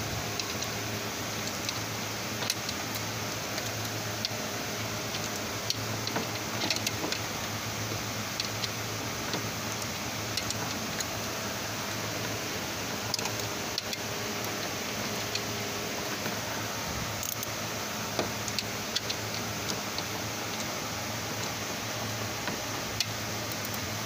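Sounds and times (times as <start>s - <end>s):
low hum and hiss: 0.0s - 24.0s.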